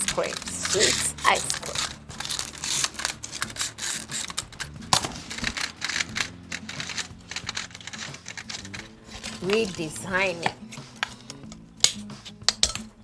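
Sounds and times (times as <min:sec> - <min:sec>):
rapid clicking and crinkling: 0:00.0 - 0:13.0.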